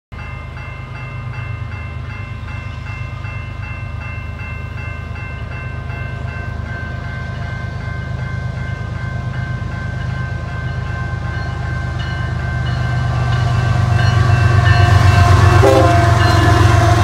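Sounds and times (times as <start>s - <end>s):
locomotive bell ringing: 0.1s - 17.0s
diesel locomotive rumbling: 0.2s - 17.0s.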